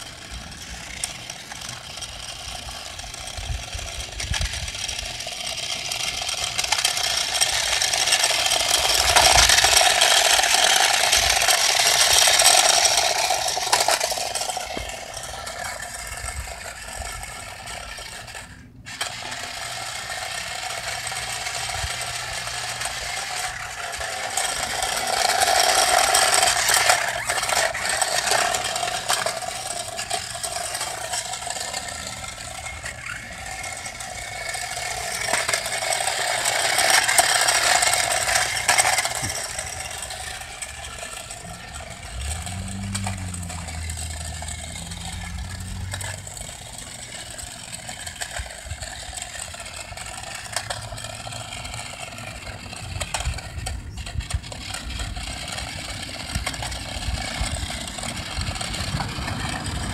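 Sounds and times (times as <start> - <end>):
toy car motor and wheels on concrete: 0.0 - 59.9.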